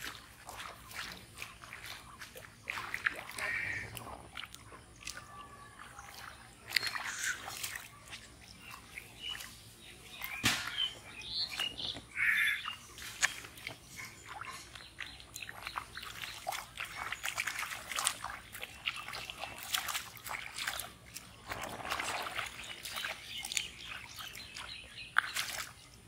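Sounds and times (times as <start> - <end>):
muddy water splashing: 0.0 - 26.0.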